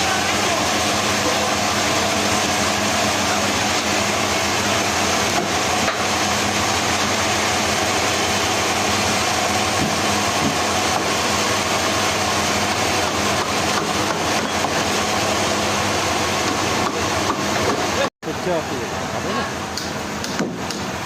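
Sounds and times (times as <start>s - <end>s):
heavy machinery droning: 0.0s - 21.0s.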